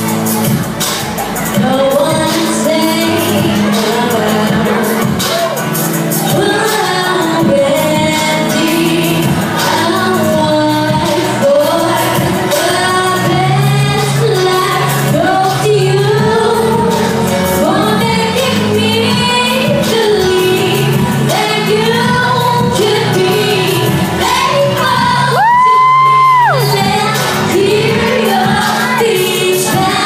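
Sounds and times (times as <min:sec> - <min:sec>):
musical accompaniment: 0:00.0 - 0:30.0
woman singing a pop ballad: 0:01.4 - 0:30.0.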